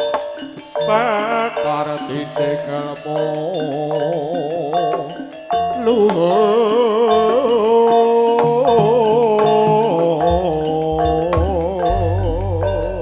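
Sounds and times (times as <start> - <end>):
ringing metallophone notes: 0.0 - 13.0
wavering held melody: 0.0 - 13.0.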